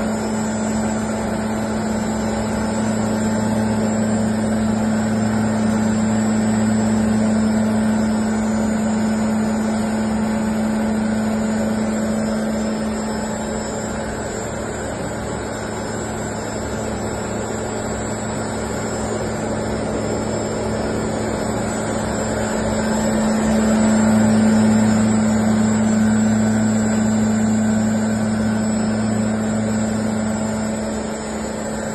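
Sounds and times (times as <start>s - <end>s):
grinding mill humming: 0.0s - 31.9s.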